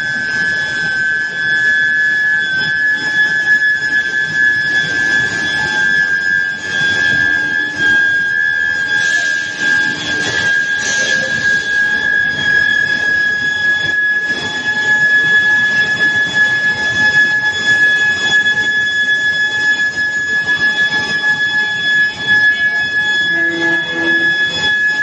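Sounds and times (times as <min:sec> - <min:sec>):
furnace coil high-pitched whine: 0:00.0 - 0:25.0
working machinery noise: 0:00.0 - 0:25.0.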